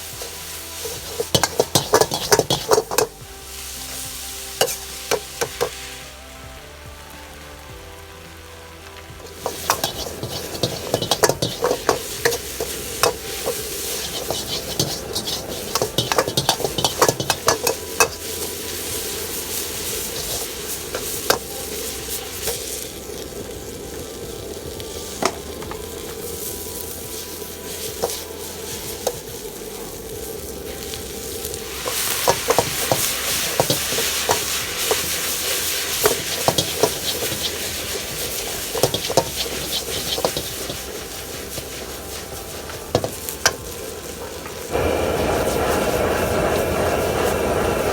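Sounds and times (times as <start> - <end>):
oil sizzling in a wok: 0.0 - 47.9
utensil scraping a wok: 0.0 - 47.9.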